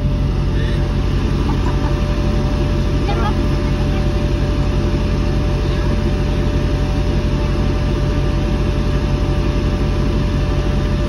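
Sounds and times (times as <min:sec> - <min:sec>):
diesel engine drone in cab: 0:00.0 - 0:11.0.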